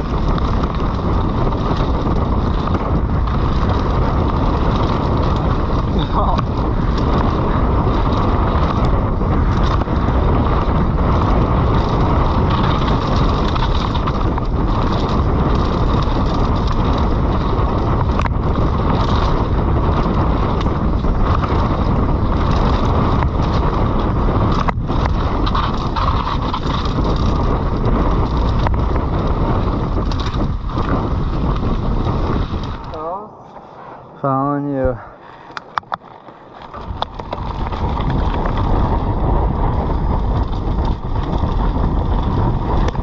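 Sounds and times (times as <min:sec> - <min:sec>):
bike knocking and rattling: 0:00.0 - 0:33.6, 0:34.9 - 0:43.0
tyres rolling on trail: 0:00.0 - 0:43.0
wind rushing over microphone: 0:00.0 - 0:43.0.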